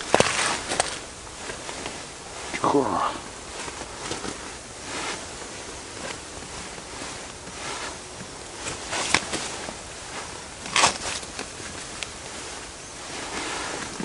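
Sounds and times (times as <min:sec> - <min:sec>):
clothing rustling: 0:00.0 - 0:14.0.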